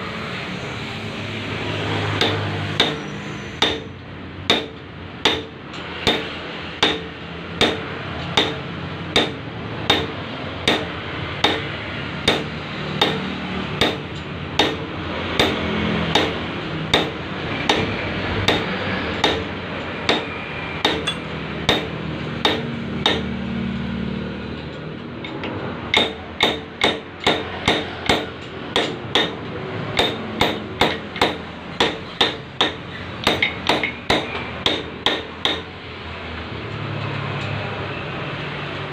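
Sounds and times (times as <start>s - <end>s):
hammer tapping on metal: 2.2s - 23.4s, 25.2s - 35.7s.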